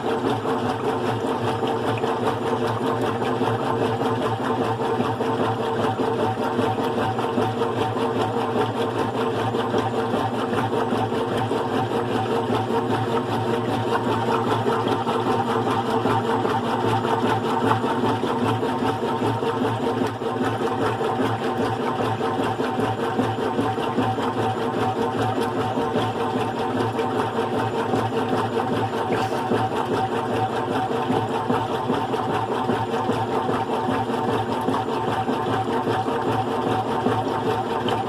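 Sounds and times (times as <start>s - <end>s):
washing machine motor humming: 0.0s - 38.0s.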